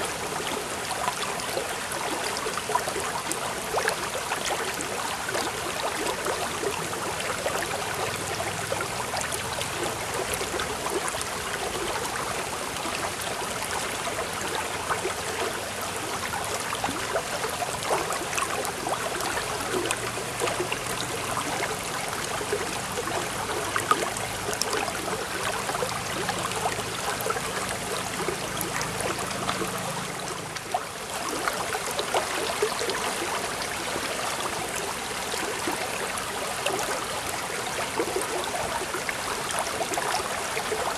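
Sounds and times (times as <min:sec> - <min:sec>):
running water babbling: 0:00.0 - 0:40.9.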